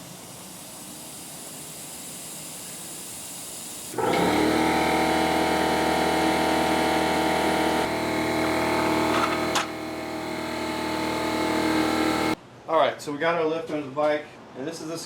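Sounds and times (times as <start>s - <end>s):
air compressor motor running: 0.0s - 12.4s.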